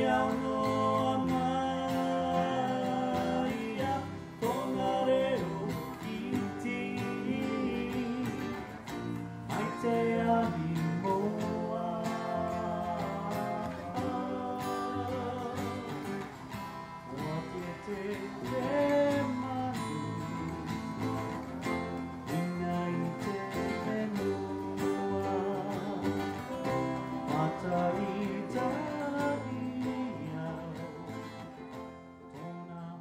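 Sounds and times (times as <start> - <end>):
person singing: 0.0 - 31.6
guitar plucked and strummed: 0.0 - 33.0.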